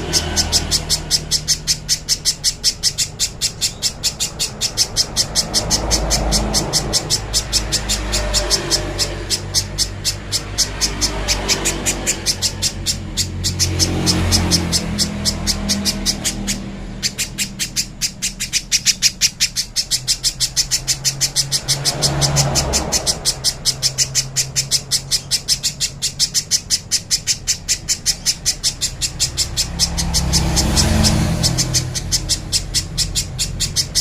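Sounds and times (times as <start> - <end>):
bird singing high sharp notes: 0.0 - 34.0.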